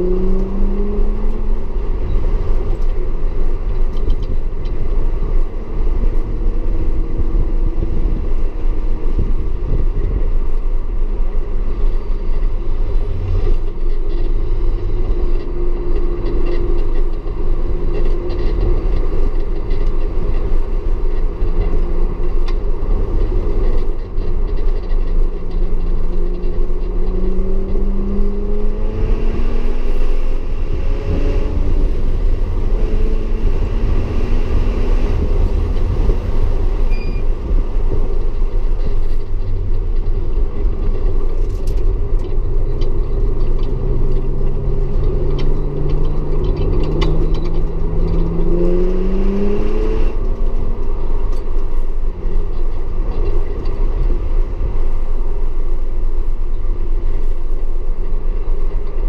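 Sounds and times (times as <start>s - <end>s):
car engine accelerating: 0.0s - 59.0s
heavy steady rumble: 0.0s - 59.0s.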